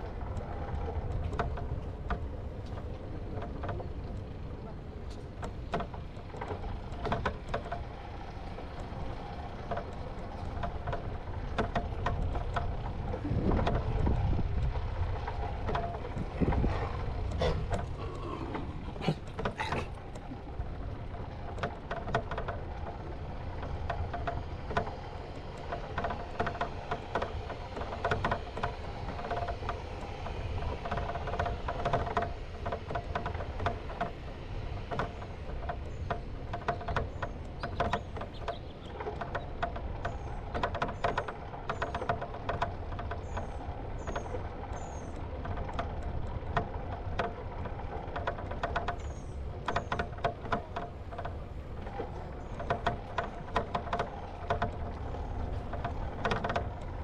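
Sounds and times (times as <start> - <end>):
bicycle clicks and rattles: 0.0 - 57.0
bicycle rolling on stone rumble: 0.0 - 57.0.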